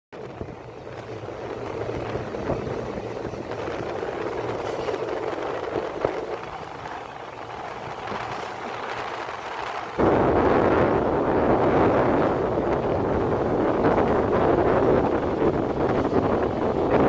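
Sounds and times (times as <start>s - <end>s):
passenger train rumbling: 0.2s - 17.0s.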